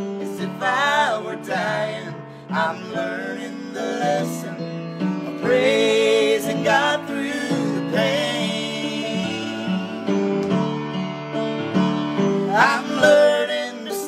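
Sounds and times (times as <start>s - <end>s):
grand piano ballad: 0.0s - 14.0s.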